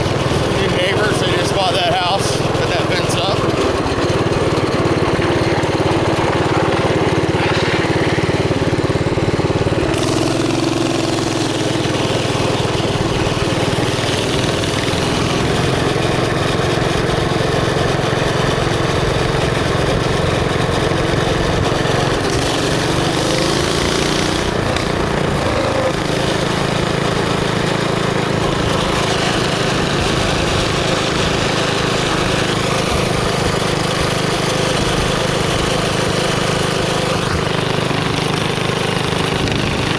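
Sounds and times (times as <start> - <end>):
mini bike engine running: 0.0 - 39.9.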